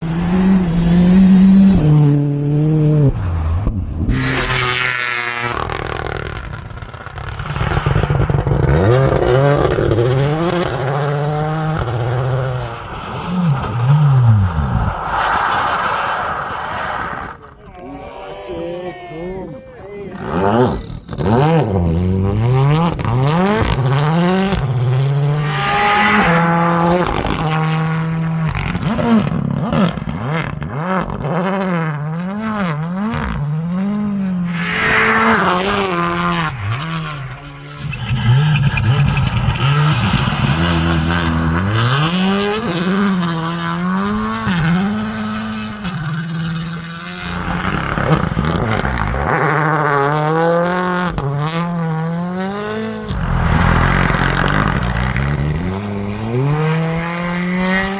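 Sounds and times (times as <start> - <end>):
rally car engines running hard: 0.0 - 17.6, 20.1 - 57.9.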